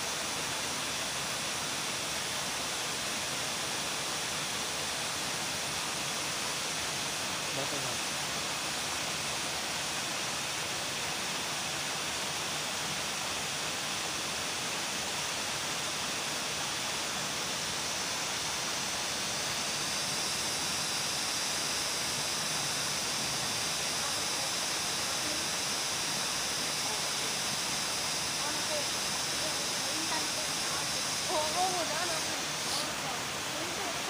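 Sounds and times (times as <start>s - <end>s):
forest ambience hiss: 0.0s - 34.0s.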